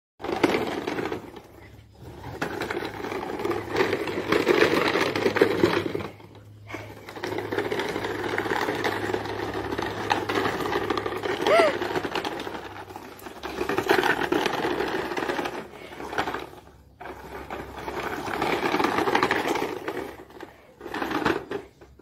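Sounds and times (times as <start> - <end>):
toy truck scraping over dirt: 0.2 - 22.0.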